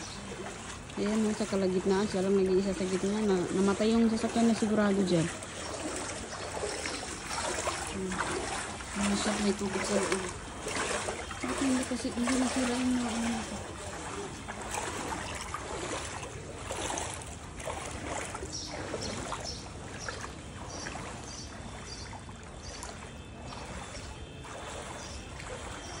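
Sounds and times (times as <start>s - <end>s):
floodwater sloshing: 0.0s - 26.0s.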